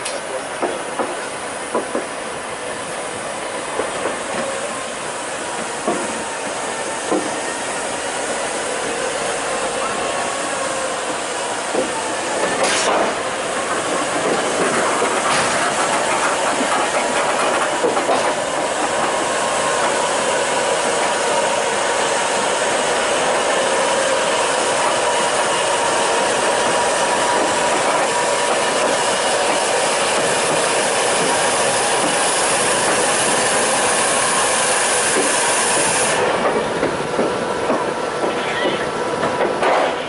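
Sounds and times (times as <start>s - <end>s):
diesel locomotive running: 0.0s - 40.0s.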